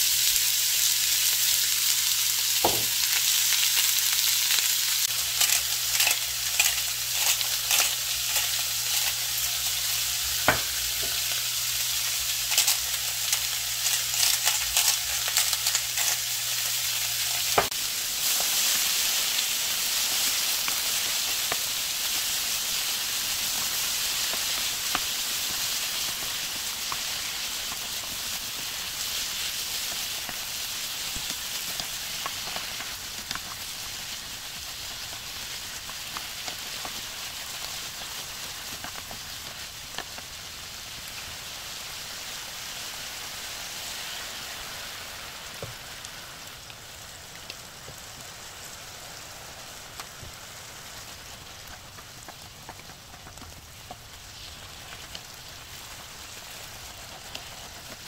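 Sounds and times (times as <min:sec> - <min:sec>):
meat and vegetables sizzling in pan: 0:00.0 - 0:58.0
oil popping and crackling: 0:00.0 - 0:58.0.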